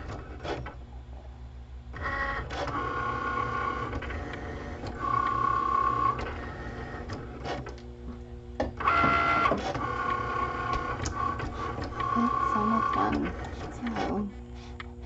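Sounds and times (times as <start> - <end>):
cutting machine motors whining: 1.9 - 15.0.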